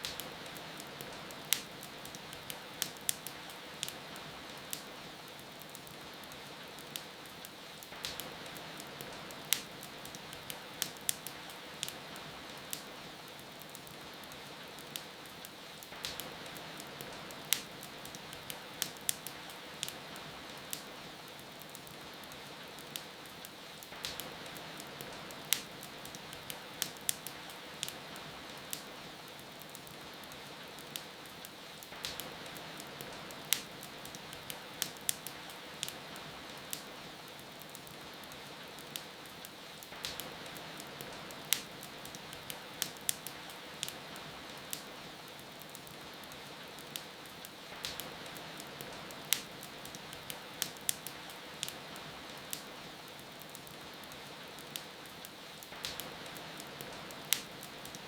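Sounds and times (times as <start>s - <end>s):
rain hiss: 0.0s - 58.0s
wood fire crackling and popping: 0.0s - 58.0s.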